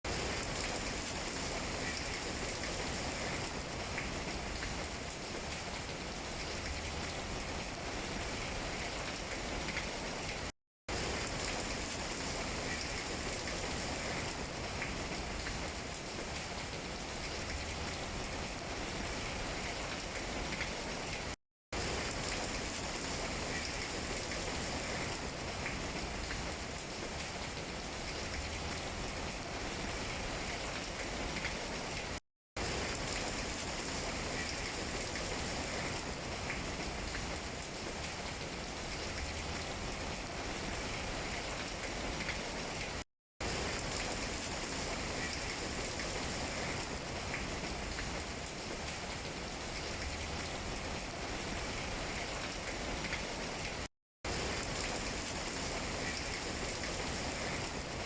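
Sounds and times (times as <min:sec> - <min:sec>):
rain on tree leaves: 0:00.1 - 0:58.0.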